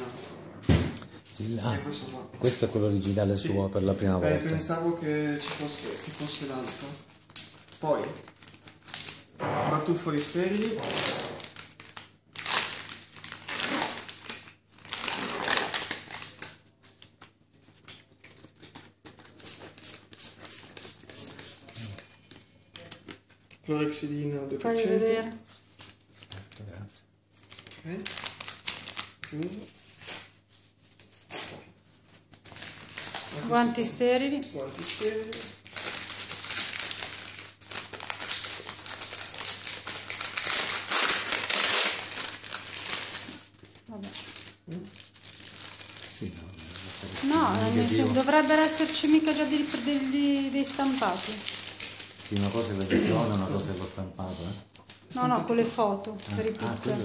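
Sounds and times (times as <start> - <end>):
wrapper crinkling: 4.8 - 57.0.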